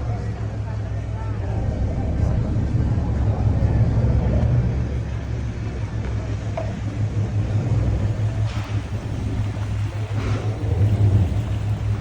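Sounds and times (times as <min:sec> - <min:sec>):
ferry engine droning: 0:00.0 - 0:12.0.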